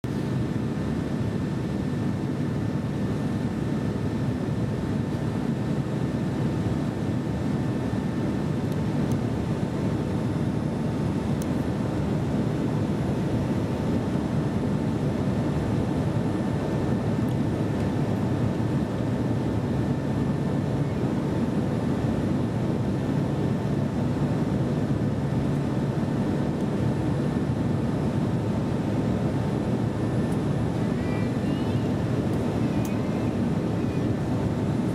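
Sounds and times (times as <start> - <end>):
airliner cabin engine rumble: 0.0 - 34.9
faint constant hum of tones: 0.1 - 34.9.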